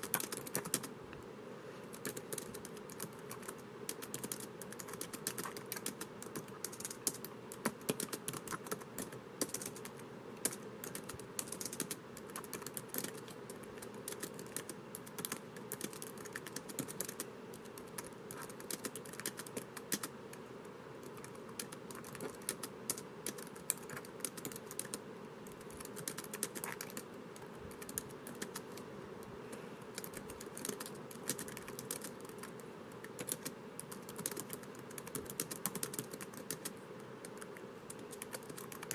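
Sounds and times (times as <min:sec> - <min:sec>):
laptop keyboard typing: 0:00.0 - 0:00.9, 0:01.9 - 0:20.4, 0:21.0 - 0:28.9, 0:29.9 - 0:38.9
faint background hum: 0:00.0 - 0:38.9.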